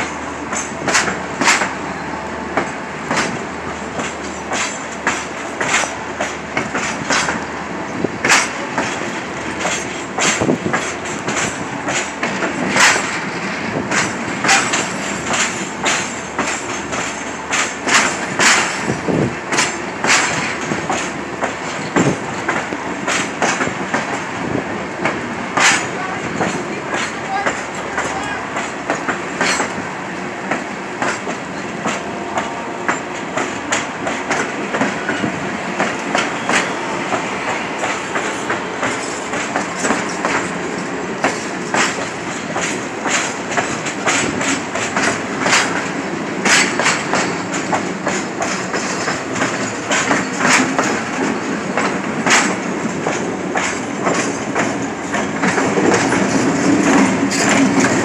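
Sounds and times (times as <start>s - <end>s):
locomotive engine drone: 0.0s - 58.0s
train wheels clacking over rails: 0.0s - 58.0s.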